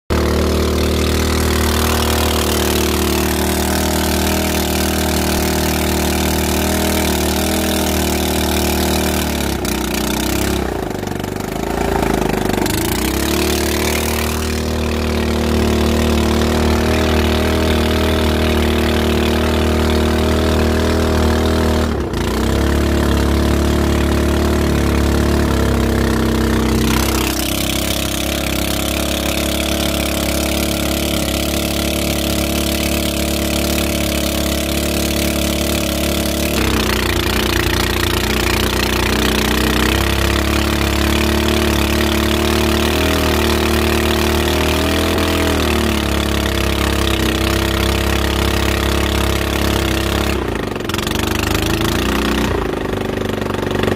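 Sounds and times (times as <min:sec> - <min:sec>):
small boat engine running: 0:00.1 - 0:53.9.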